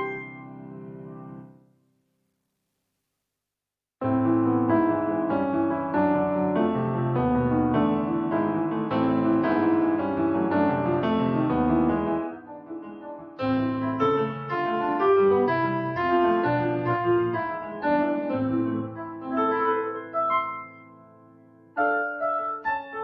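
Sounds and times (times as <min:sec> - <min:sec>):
keyboard piano notes and chords: 0:00.0 - 0:01.7, 0:04.0 - 0:23.0.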